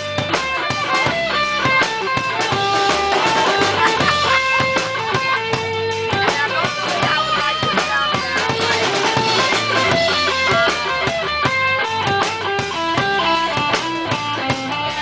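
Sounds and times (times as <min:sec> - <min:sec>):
drum kit beat: 0:00.0 - 0:15.0
electric guitar melody: 0:00.0 - 0:15.0.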